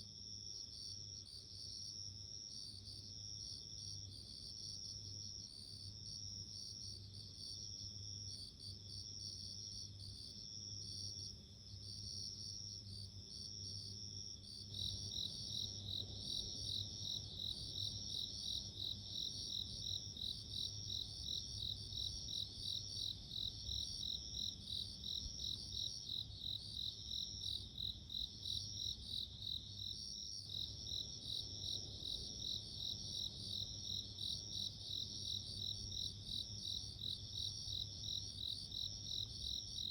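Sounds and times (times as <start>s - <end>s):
crickets chirping: 7.4s - 39.9s.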